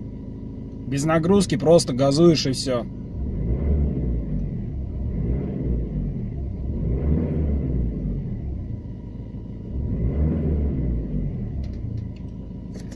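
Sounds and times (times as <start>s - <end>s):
diesel engine rumbling: 0.0s - 12.9s.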